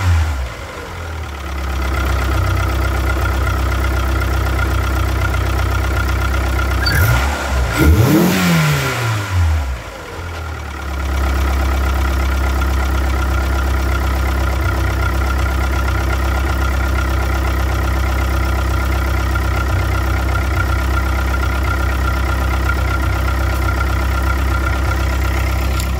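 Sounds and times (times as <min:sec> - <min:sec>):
car engine revving and idling: 0:00.0 - 0:25.9.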